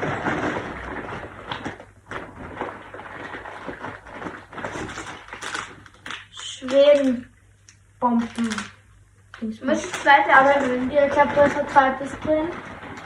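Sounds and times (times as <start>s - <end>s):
packaging rustling: 0.0s - 7.2s, 8.1s - 8.8s, 9.7s - 13.0s.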